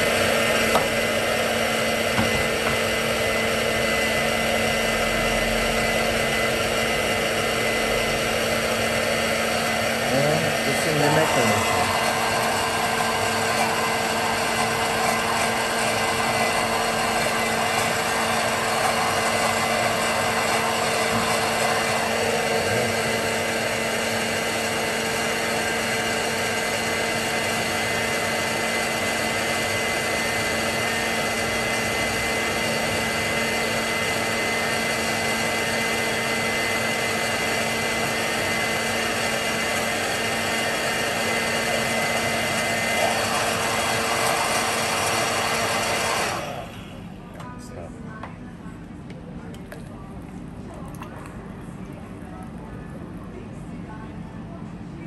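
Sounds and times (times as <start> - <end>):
electric motor whirring: 0.0 - 47.1.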